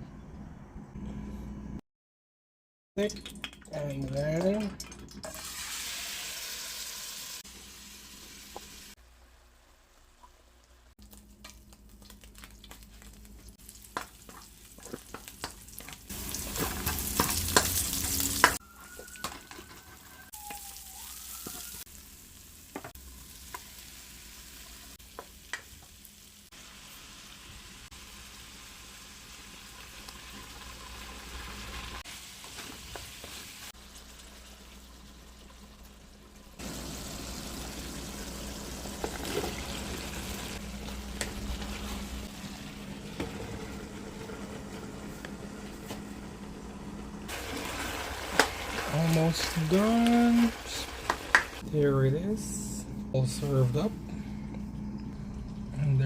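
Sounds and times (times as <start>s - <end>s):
food sizzling in a pan: 5.3s - 45.7s, 46.6s - 51.6s.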